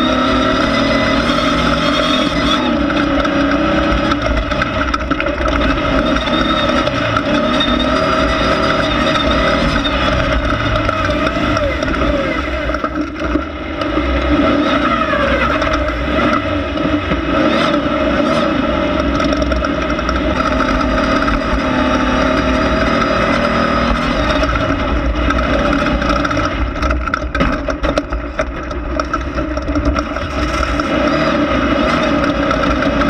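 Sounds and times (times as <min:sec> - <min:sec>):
race car engine running hard: 0:00.0 - 0:33.0.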